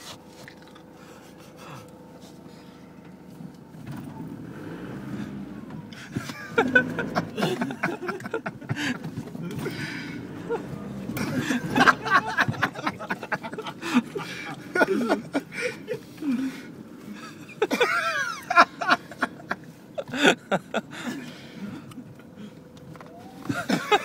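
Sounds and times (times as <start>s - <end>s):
van engine hum: 0.0s - 24.0s.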